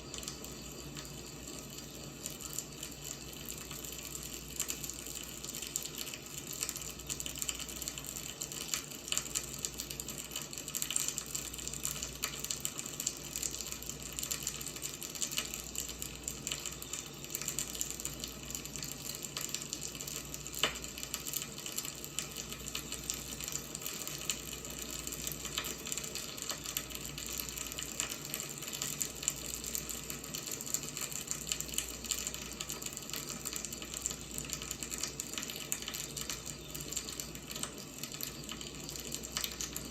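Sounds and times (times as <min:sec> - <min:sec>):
firewood burning with crackles: 0:00.0 - 0:39.9.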